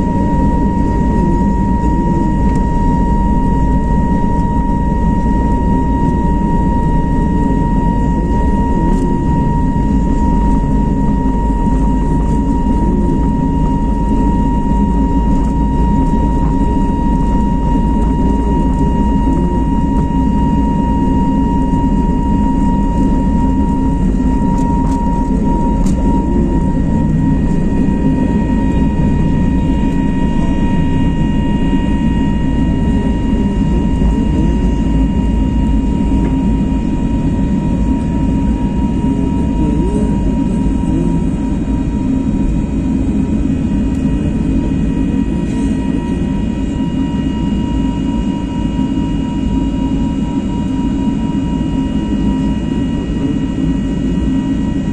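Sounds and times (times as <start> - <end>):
jet engines rumbling and whining: 0.0 - 54.9.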